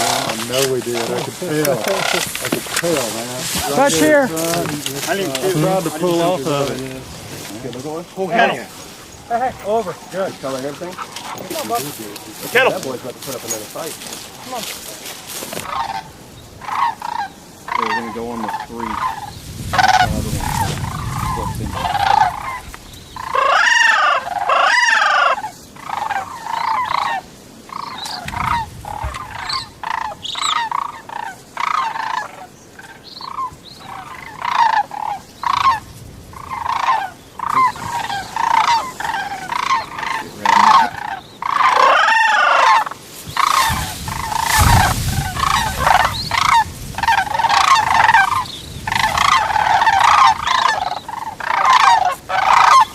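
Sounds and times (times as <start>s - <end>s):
geese honking: 0.0s - 52.9s.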